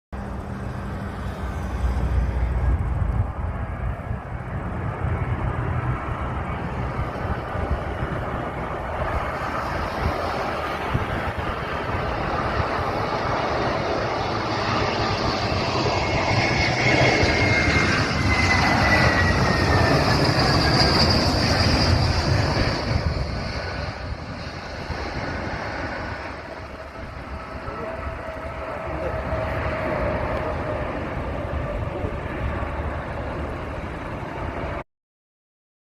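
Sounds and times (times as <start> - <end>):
jet engines roaring: 0.2 - 34.8.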